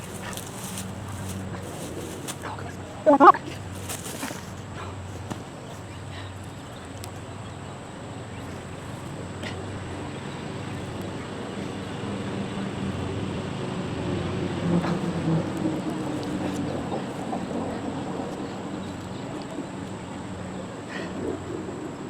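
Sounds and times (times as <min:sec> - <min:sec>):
steady engine hum: 0:00.0 - 0:22.0.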